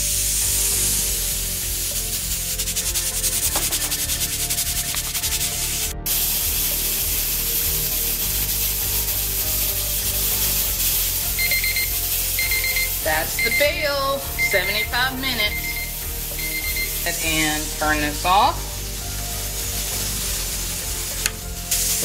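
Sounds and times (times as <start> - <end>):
pressure canner hissing steam: 0.0 - 22.0.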